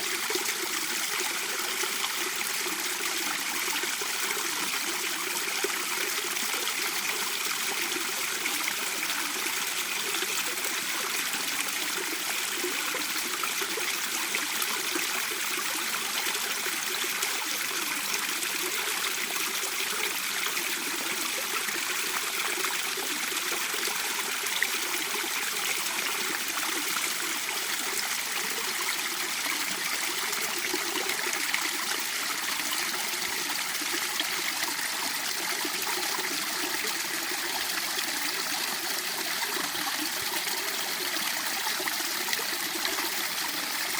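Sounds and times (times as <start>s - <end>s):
stream water running over rocks: 0.0s - 43.9s.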